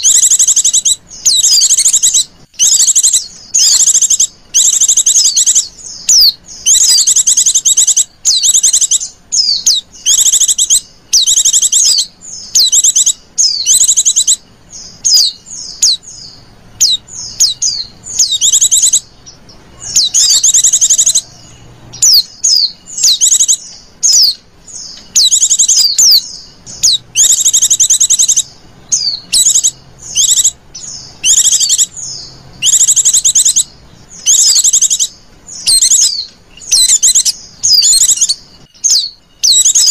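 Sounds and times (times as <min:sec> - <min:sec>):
bird high trills: 0:00.0 - 0:39.9.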